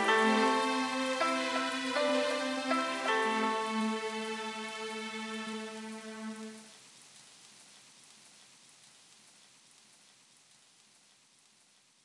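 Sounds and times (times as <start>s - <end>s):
faint recorded rain: 0.0s - 12.0s.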